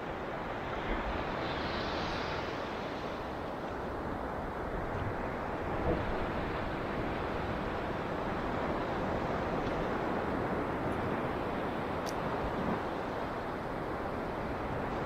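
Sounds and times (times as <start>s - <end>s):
ocean waves on a beach: 0.0s - 15.0s.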